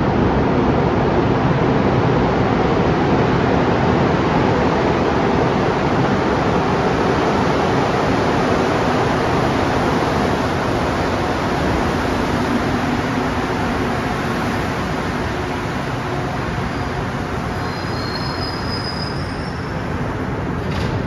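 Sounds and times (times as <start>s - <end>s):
train rushing rumble: 0.0s - 21.0s.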